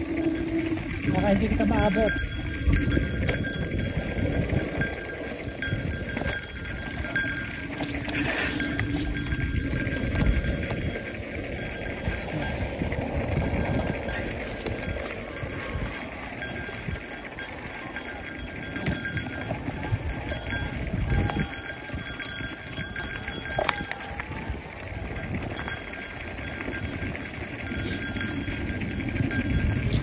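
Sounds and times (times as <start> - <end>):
bike rattling and knocking: 0.0 - 30.0
bike tyres rolling on dirt: 0.0 - 30.0.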